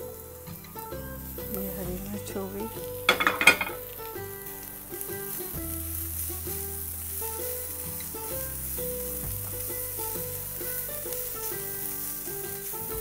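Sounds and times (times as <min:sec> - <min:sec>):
background music with bass line: 0:00.0 - 0:13.0
vegetables sizzling in hot oil: 0:00.0 - 0:13.0.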